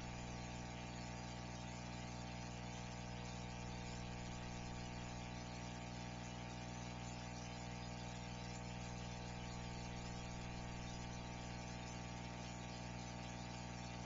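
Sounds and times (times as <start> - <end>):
electrical hum and buzz: 0.0 - 14.0.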